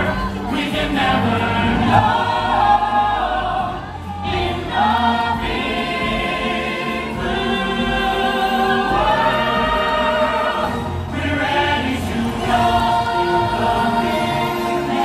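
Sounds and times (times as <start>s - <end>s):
backing music: 0.0s - 15.0s
choir singing: 0.0s - 15.0s.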